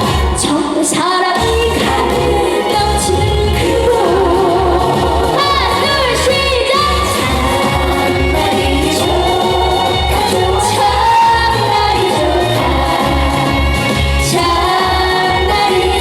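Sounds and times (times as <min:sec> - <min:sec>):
woman singing through a pa: 0:00.0 - 0:13.4
backing track with pulsing bass: 0:00.0 - 0:16.0.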